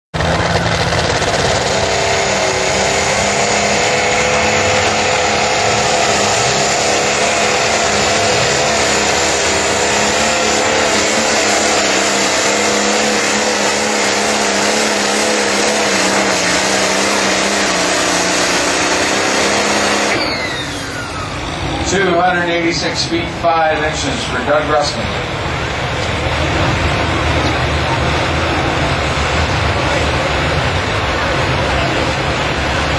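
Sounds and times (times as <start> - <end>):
tractor engine running hard: 0.1 - 32.9.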